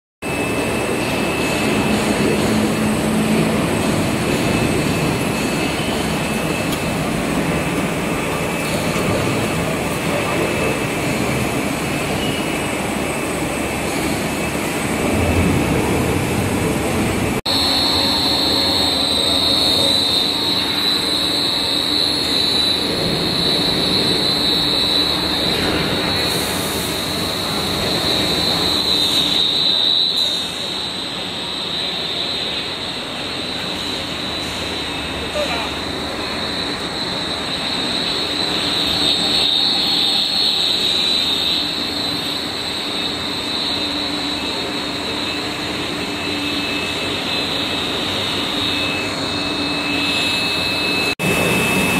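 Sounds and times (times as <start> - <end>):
loud steady machine noise: 0.2 - 51.9
steady high whine: 0.2 - 51.9.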